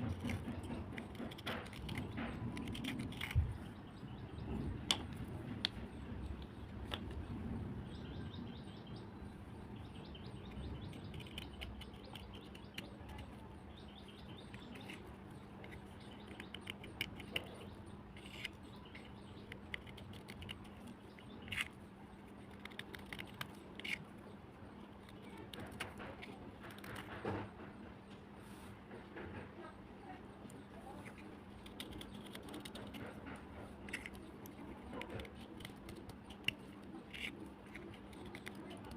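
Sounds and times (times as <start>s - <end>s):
clay cubes crunching and snapping: 0.0s - 3.8s, 4.7s - 7.4s, 10.5s - 27.3s, 30.5s - 38.9s
steady low hum: 0.0s - 38.9s.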